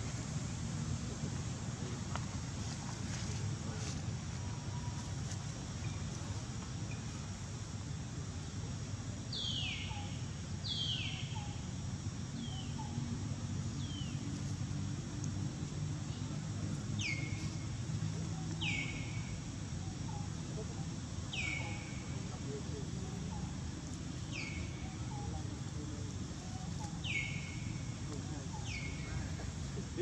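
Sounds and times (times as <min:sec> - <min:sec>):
steady low background noise: 0:00.0 - 0:30.0.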